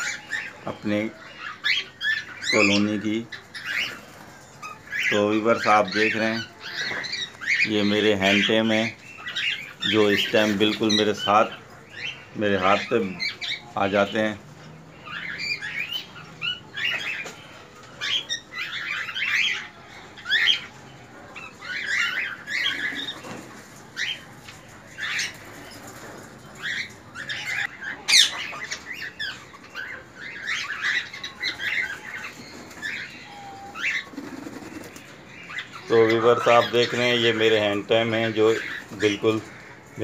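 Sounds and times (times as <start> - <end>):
cockatiels chirping and squawking: 0.0 - 40.0.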